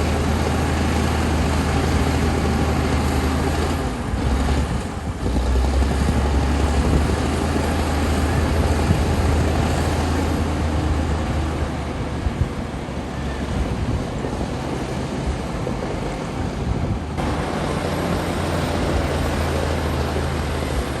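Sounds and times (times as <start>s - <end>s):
bulldozer diesel engine running: 0.0s - 21.0s
track and machine noise: 0.0s - 21.0s.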